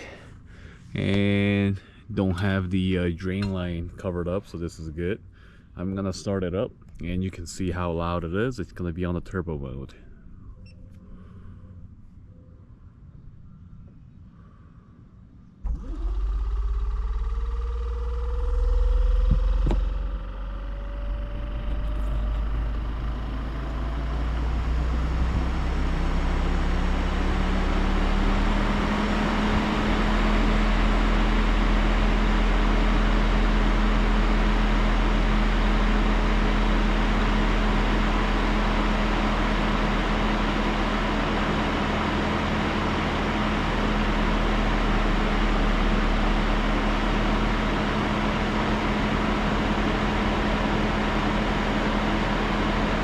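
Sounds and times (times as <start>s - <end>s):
air conditioner fans whirring: 0.0s - 53.0s.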